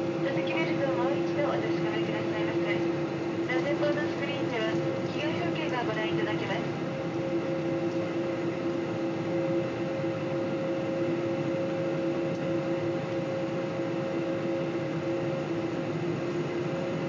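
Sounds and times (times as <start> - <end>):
jet engines running in cabin: 0.0 - 17.0.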